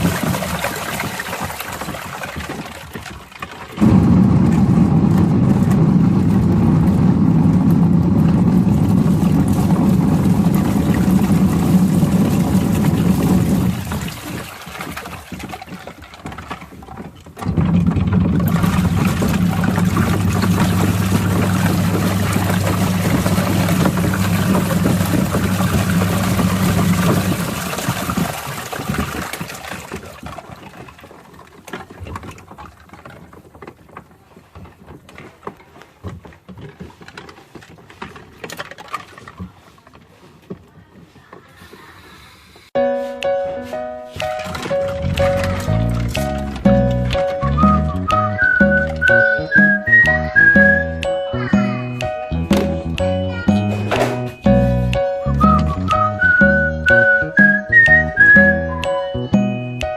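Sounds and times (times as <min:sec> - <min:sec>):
washing machine motor humming: 0:00.0 - 0:35.4, 0:44.0 - 0:59.8
water churning and sloshing: 0:00.0 - 0:42.7, 0:43.7 - 0:59.1.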